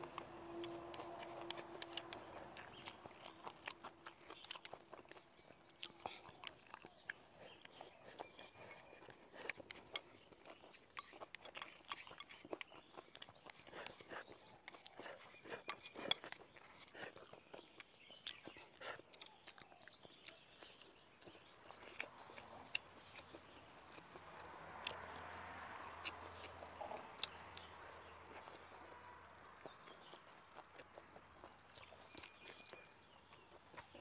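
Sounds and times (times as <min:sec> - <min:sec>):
faint steady background noise: 0:00.0 - 0:34.0
wet chewing clicks and smacks: 0:00.0 - 0:34.0.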